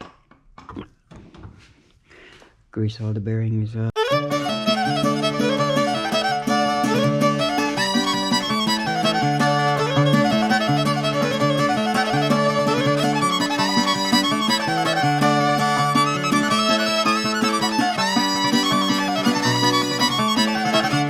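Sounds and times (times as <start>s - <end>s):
fiddle playing lively melody: 4.0s - 21.0s
steady held notes: 4.0s - 21.0s.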